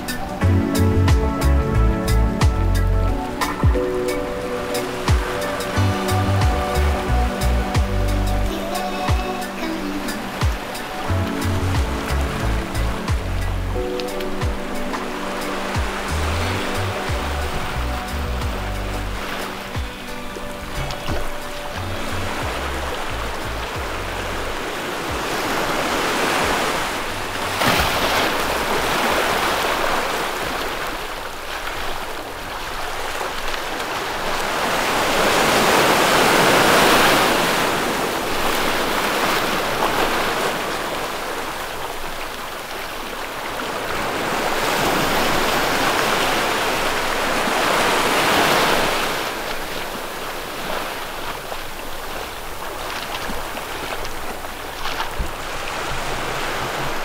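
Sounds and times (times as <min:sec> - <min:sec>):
sea waves breaking on beach: 0:00.0 - 0:01.7, 0:02.3 - 0:57.0.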